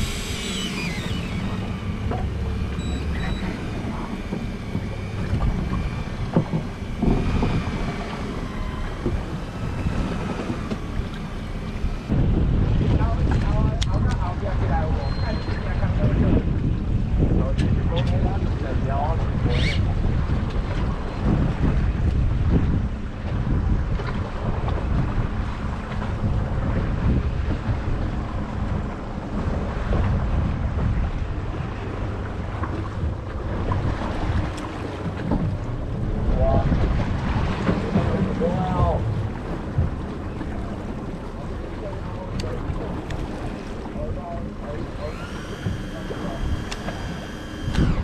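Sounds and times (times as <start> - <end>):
boat engine hum: 0.0 - 48.0
water: 0.0 - 48.0
wind buffeting microphone: 0.0 - 48.0.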